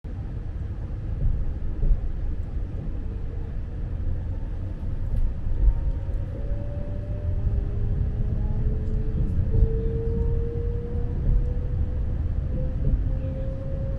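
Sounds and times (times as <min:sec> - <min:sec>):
train carriage rumble: 0:00.0 - 0:13.9.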